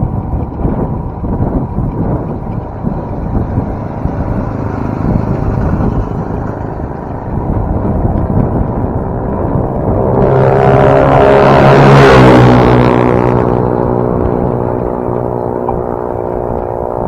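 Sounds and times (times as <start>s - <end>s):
road noise: 0.0s - 17.0s
wind noise on microphone: 0.0s - 17.0s.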